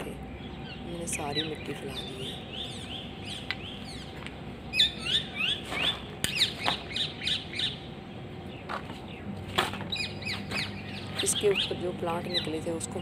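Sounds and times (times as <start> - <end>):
birds chirping: 0.0 - 13.0
faint steady hum: 0.0 - 13.0.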